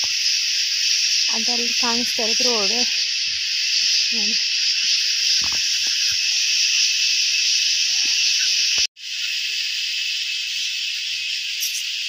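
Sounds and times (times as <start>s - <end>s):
shrill insect chorus buzzing: 0.0s - 12.0s.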